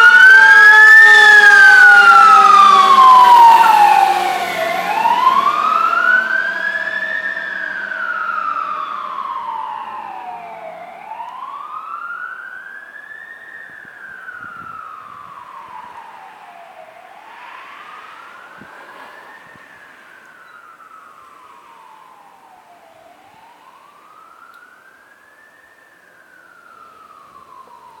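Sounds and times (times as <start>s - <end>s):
fire truck siren wailing: 0.0s - 28.0s.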